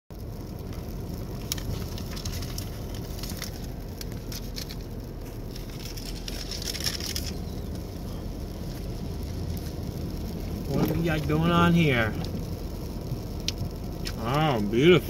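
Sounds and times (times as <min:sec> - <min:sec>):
car driving low rumble: 0:00.1 - 0:15.0
light ticks and crackling: 0:00.1 - 0:15.0.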